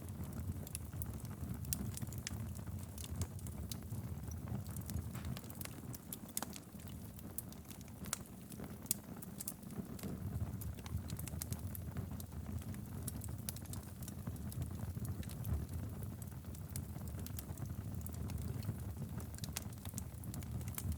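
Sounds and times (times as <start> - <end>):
burning logs crackling and popping: 0.0 - 20.9
low rumble of flames: 0.0 - 20.9.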